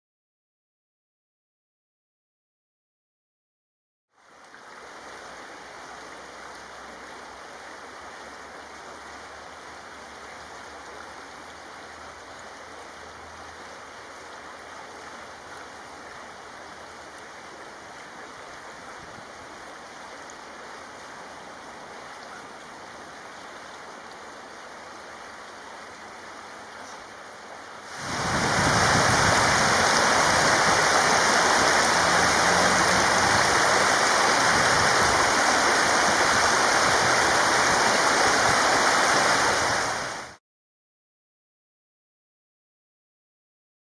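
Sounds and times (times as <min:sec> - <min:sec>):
stream running over stones: 0:04.2 - 0:40.4.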